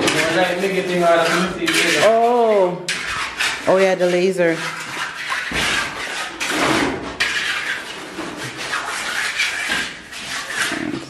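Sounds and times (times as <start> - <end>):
tool scraping wet concrete: 0.0 - 11.0.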